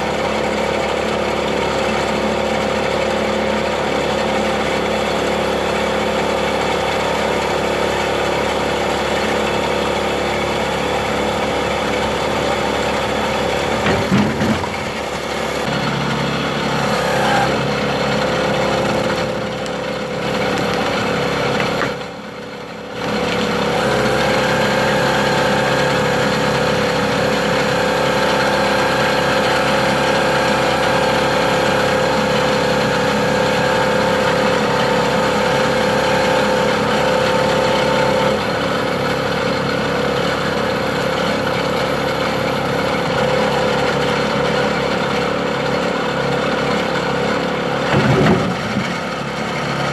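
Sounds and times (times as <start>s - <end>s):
log splitter engine running: 0.0s - 49.9s.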